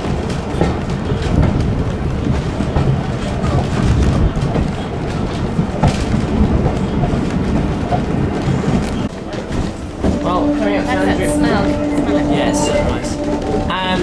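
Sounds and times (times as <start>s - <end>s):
rail joint clicks: 0.0s - 14.0s
rumble of wheels on rail: 0.0s - 14.0s.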